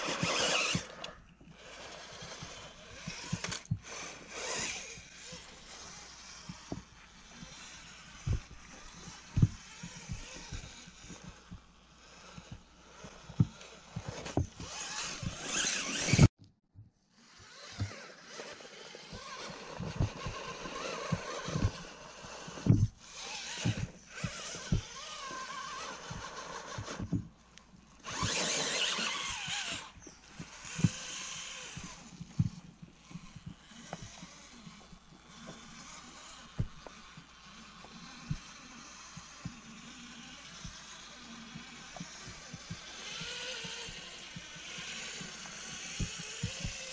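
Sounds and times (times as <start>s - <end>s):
electric motor and gears whirring: 0.0s - 46.9s.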